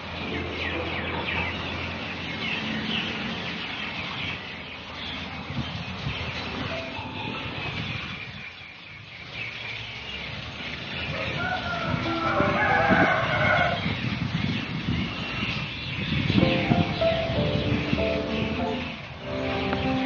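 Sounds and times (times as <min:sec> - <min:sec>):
birds chirping: 0:00.0 - 0:20.0
steady outdoor background noise: 0:00.0 - 0:20.0.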